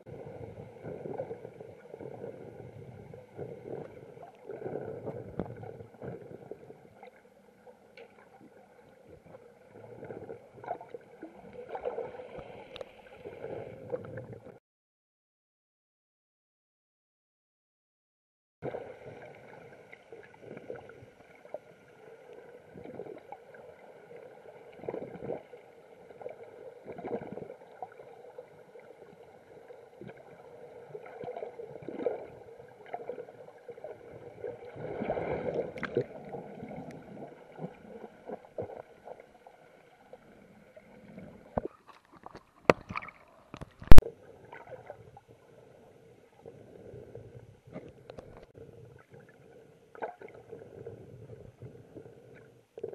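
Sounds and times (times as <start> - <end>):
water sloshing and gurgling underwater: 0.0 - 14.6, 18.6 - 52.9.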